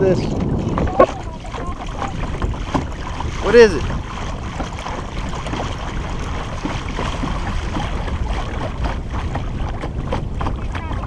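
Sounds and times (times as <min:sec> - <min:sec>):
water lapping at kayak bow: 0:00.0 - 0:11.0
wind rumble on microphone: 0:00.0 - 0:11.0.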